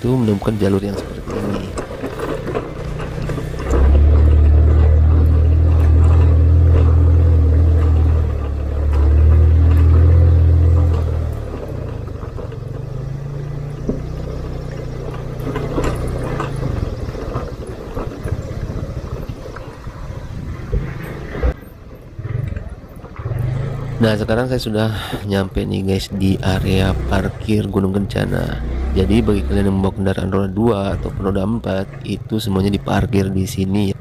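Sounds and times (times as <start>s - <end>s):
motorcycle engine running: 0.0s - 24.4s, 26.1s - 34.0s
knocks and rattles over stones: 0.0s - 34.0s.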